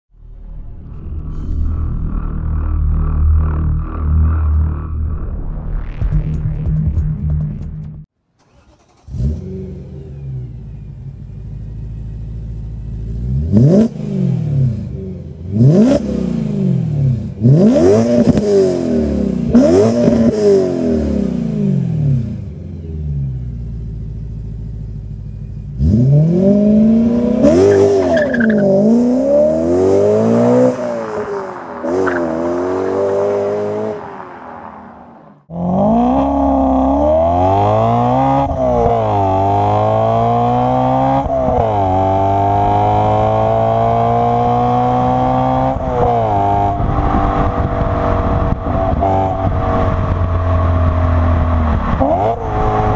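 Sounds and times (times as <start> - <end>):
car engine revving: 0.2 - 52.9.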